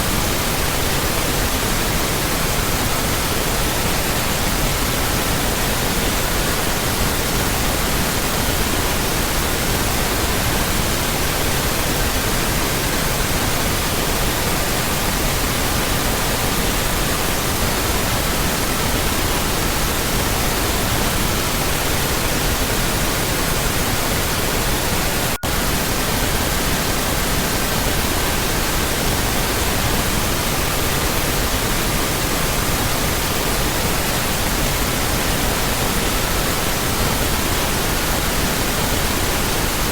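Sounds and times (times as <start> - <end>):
pink noise: 0.0 - 39.9.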